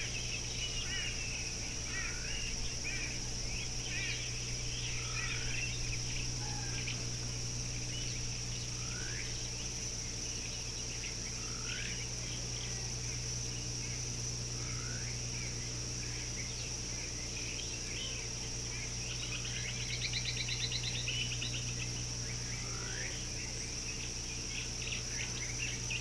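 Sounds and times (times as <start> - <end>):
high-pitched insect drone: 0.0 - 26.0
low steady hum: 0.0 - 26.0.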